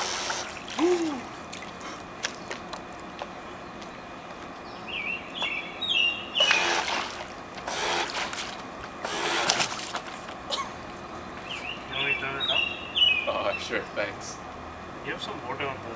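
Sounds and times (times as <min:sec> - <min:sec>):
birds chirping: 0:00.0 - 0:09.4, 0:10.4 - 0:14.5
boat motors churning water: 0:00.0 - 0:15.9.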